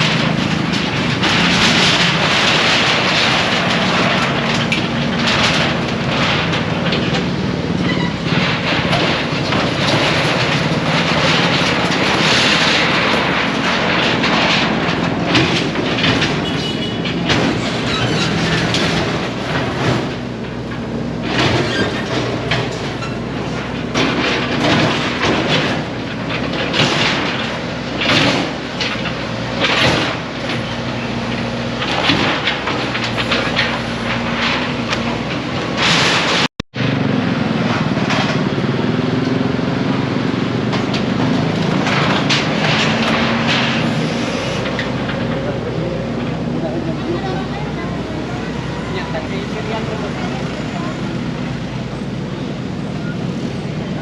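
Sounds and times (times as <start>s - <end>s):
debris clattering and crashing: 0.0s - 54.0s
machine engine running: 0.0s - 54.0s.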